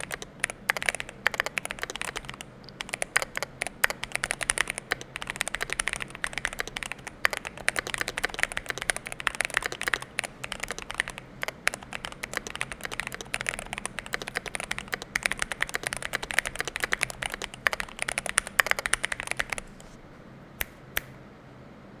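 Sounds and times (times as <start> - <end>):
fast mechanical keyboard typing: 0.0 - 20.0.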